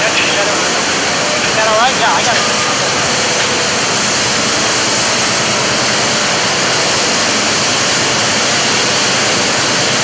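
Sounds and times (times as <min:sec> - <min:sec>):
machinery rushing hiss: 0:00.0 - 0:10.0.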